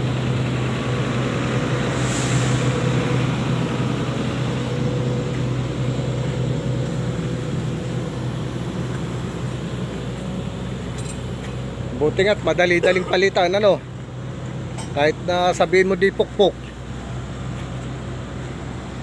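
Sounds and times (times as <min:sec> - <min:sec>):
excavator diesel engine drone: 0:00.0 - 0:19.0.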